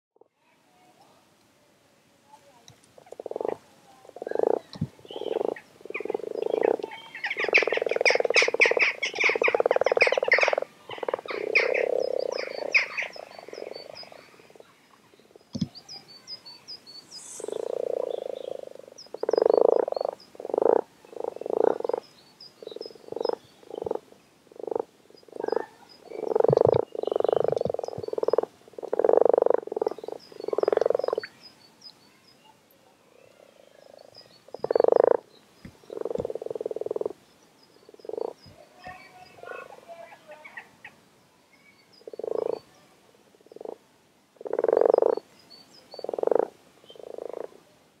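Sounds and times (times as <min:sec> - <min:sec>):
frogs croaking: 0:03.0 - 0:32.4, 0:33.2 - 0:41.0, 0:41.8 - 0:43.8, 0:44.4 - 0:47.6.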